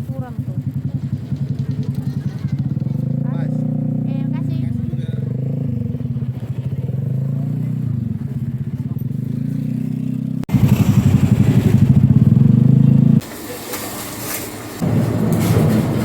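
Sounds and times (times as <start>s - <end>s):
vehicle engine pulsing hum: 0.0s - 13.4s.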